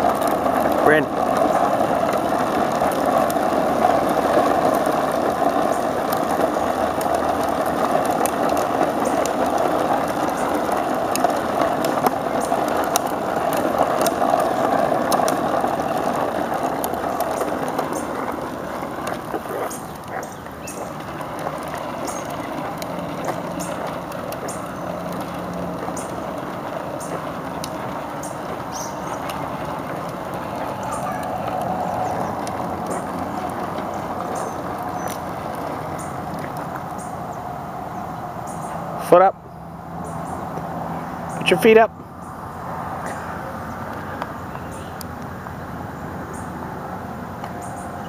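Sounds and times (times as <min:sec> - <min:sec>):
plastic wheels rolling on asphalt: 0:00.0 - 0:48.0.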